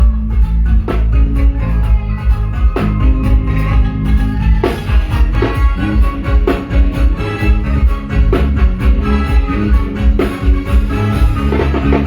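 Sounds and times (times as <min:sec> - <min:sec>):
live band playing upbeat tune: 0:00.0 - 0:12.0.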